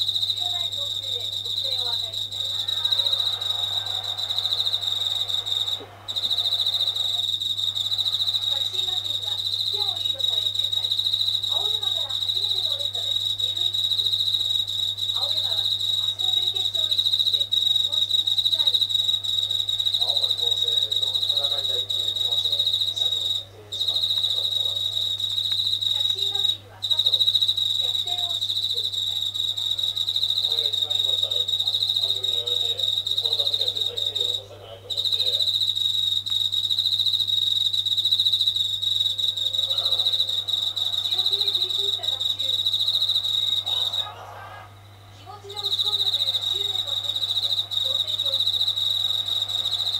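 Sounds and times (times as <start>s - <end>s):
katydid buzzing trill: 0.0s - 44.1s, 45.4s - 49.9s.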